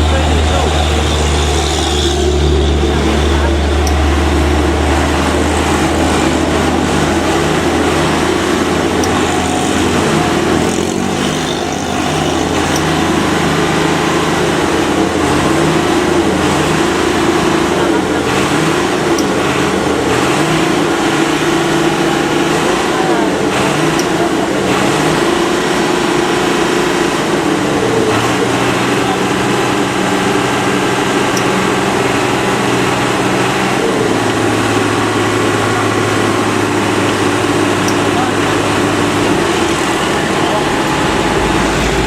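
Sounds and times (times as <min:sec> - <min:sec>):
vehicle engines running: 0:00.0 - 0:42.0.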